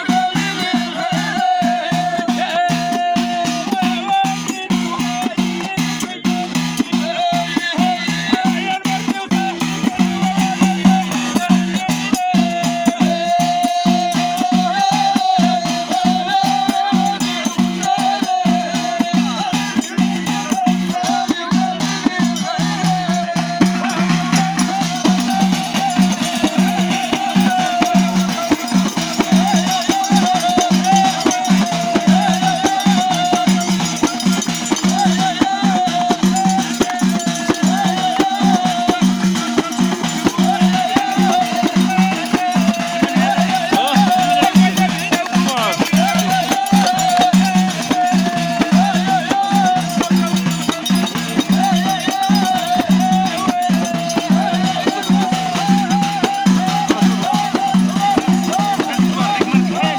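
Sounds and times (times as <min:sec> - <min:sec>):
frame drums: 0:00.0 - 0:59.9
rattling percussion: 0:00.0 - 0:59.9.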